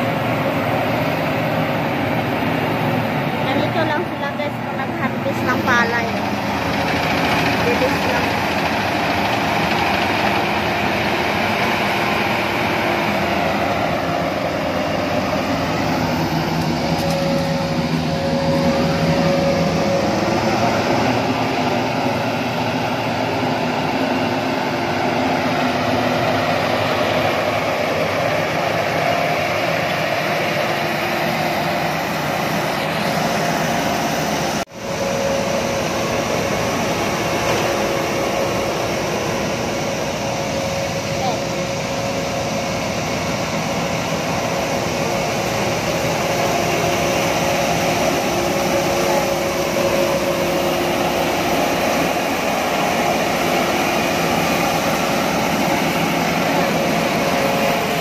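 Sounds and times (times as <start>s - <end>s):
combine harvester engine and threshing: 0.0s - 58.0s.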